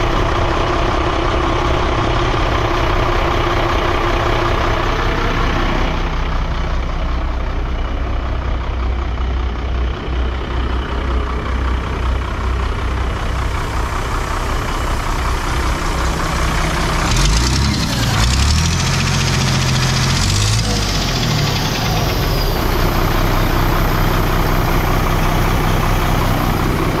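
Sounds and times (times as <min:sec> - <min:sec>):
diesel truck engine idling and revving: 0:00.0 - 0:27.0.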